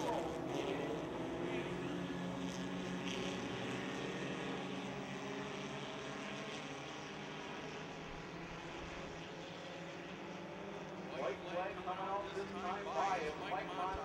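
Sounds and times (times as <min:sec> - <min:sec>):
racing car engines droning: 0:00.0 - 0:14.0.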